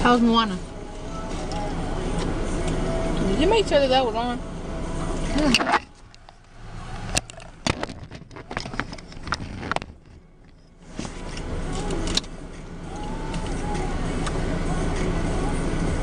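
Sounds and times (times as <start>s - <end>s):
low hum inside a car: 0.0s - 16.0s.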